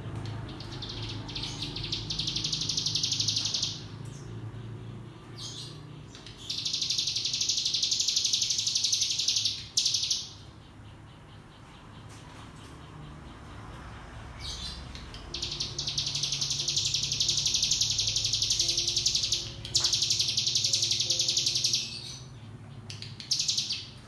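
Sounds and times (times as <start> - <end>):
bird singing buzzing trills: 0.3 - 24.0.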